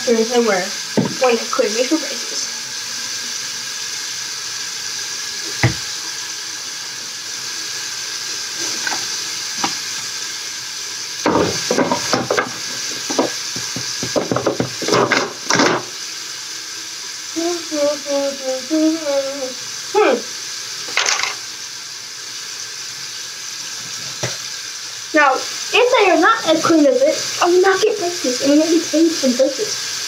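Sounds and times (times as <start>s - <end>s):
tap water running: 0.0s - 30.0s.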